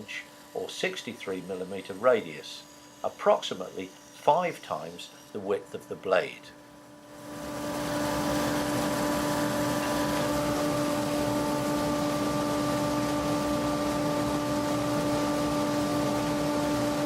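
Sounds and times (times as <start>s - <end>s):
bandsaw running: 0.0s - 17.0s.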